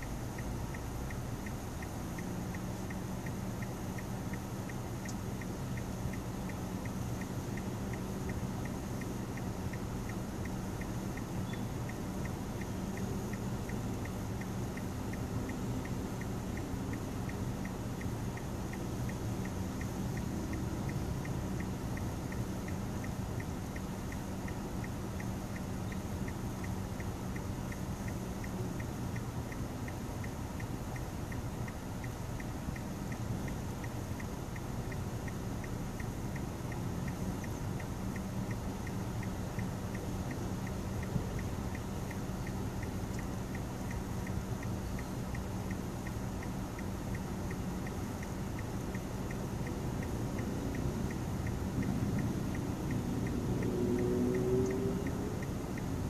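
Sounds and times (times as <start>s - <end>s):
faint regular tick: 0.0s - 56.0s.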